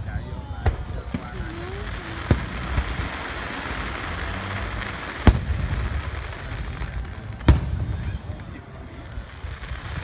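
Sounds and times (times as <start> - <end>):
fireworks bangs: 0.0 - 10.0
steady low rumble: 0.0 - 10.0.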